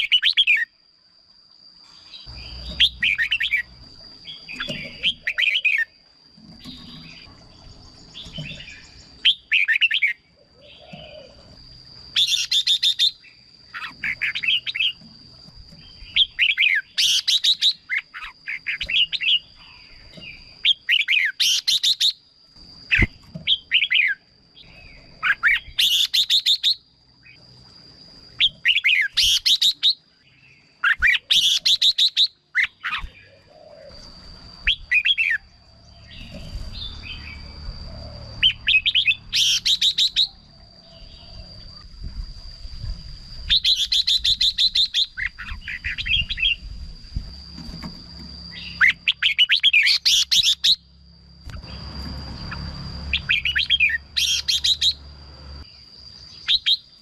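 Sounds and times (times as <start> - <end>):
steady high-pitched whine: 0.0 - 57.0
bird warbling song: 1.9 - 22.2, 22.8 - 27.5, 28.3 - 57.0.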